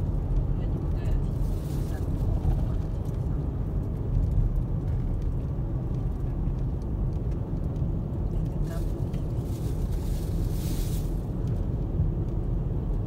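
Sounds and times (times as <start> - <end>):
car driving on highway: 0.0 - 13.0.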